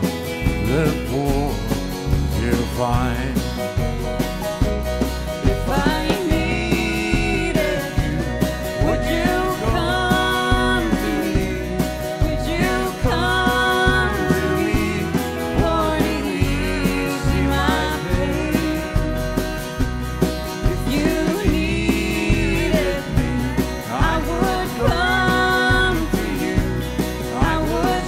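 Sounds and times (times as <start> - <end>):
country band playing: 0.0 - 28.0
sliding lead melody: 0.0 - 28.0.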